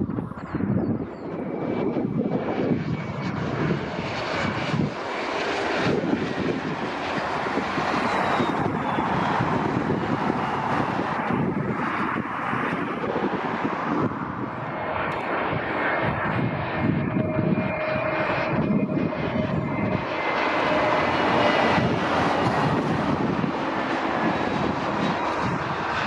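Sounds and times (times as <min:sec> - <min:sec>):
jet plane passing: 0:00.0 - 0:26.0.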